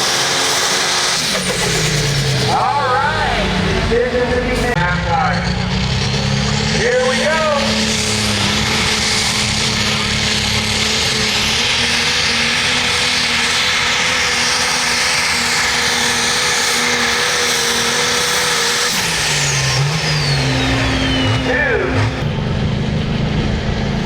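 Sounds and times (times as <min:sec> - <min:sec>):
pulling vehicle engine roaring: 0:00.0 - 0:24.0.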